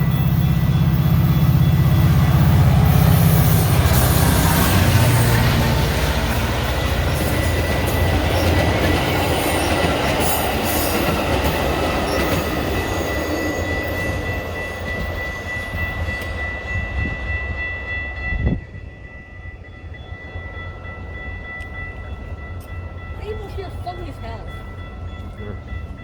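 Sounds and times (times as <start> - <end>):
train passing with rail noise: 0.0 - 26.0.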